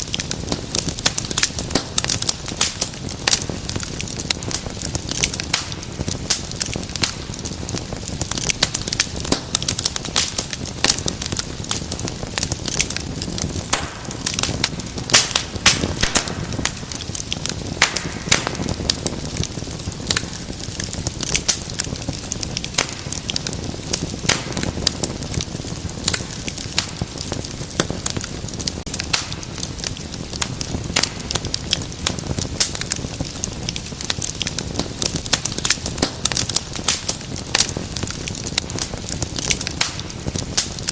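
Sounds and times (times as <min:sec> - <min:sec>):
low rush of flame: 0:00.0 - 0:40.9
wood fire crackling: 0:00.0 - 0:40.9.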